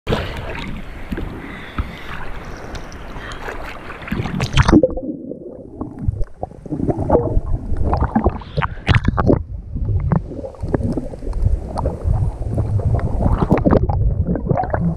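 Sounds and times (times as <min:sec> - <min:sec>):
muffled underwater gurgles and bumps: 0:00.1 - 0:14.9
water sloshing and splashing: 0:00.1 - 0:14.9.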